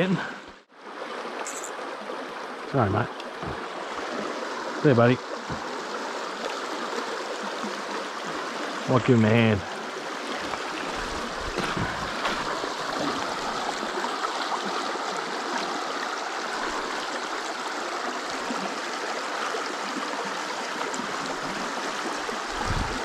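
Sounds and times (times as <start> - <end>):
creek water babbling over rocks: 0.0 - 23.0.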